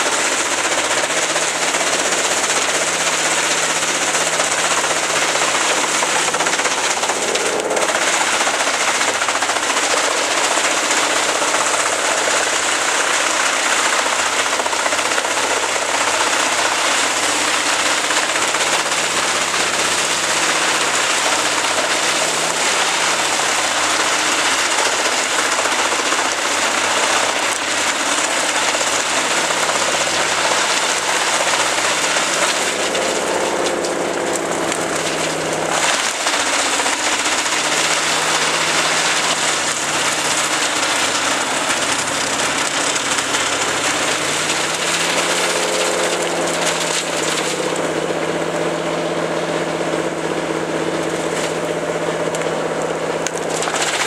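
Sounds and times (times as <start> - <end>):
machine engine hum: 0.0 - 54.0
wood chipper grinding: 0.0 - 54.0.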